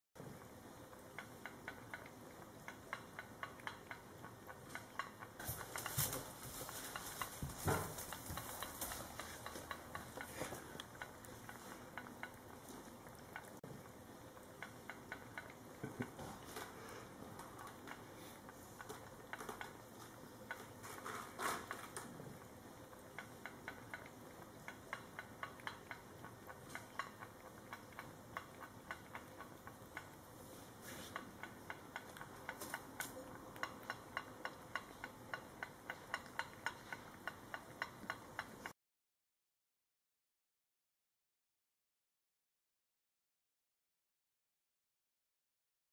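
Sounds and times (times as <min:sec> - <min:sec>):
cats lapping food: 0:00.3 - 0:38.7.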